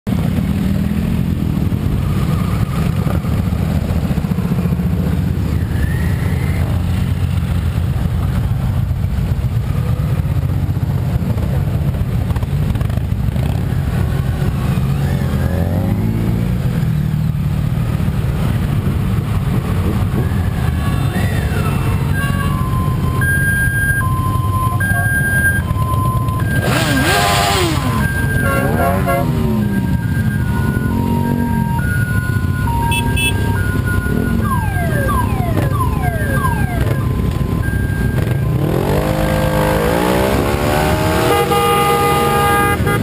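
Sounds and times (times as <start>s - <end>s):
motorcycle engines revving: 0.1s - 43.0s
motorcycles riding past: 0.1s - 43.0s.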